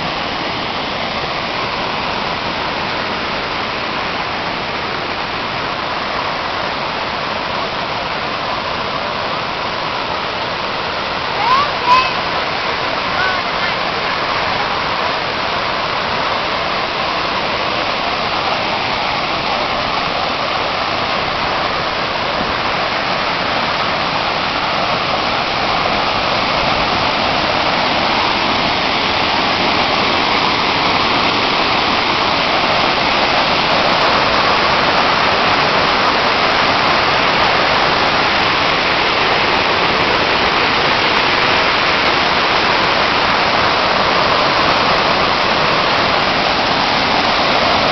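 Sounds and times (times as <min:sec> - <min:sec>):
waterfall pouring: 0:00.0 - 0:47.9.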